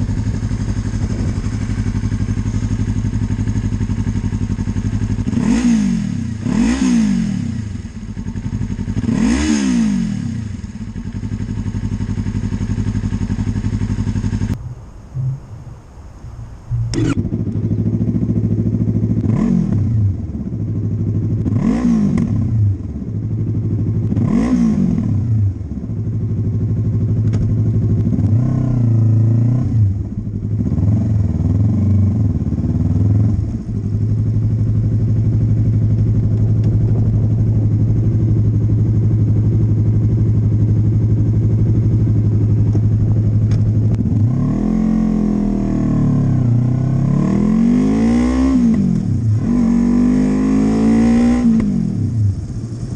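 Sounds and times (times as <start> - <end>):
motorcycle engine revving and idling: 0.0 - 15.6, 16.7 - 52.9.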